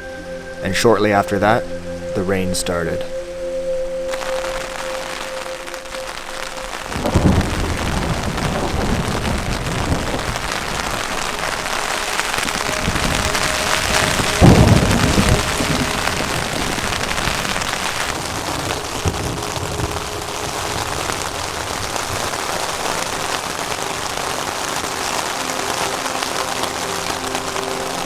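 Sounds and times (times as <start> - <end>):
rain falling: 0.0 - 28.0
thunderclap rumbling: 4.1 - 28.0.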